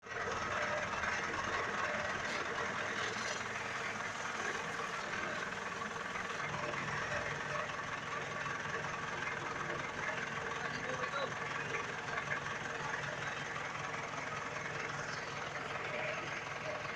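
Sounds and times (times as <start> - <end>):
engine idling through exhaust: 0.0 - 16.9.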